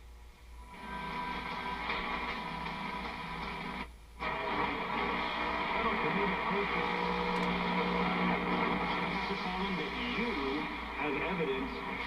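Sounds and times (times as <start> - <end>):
radio static hiss: 0.0 - 12.0
music on radio: 0.6 - 12.0.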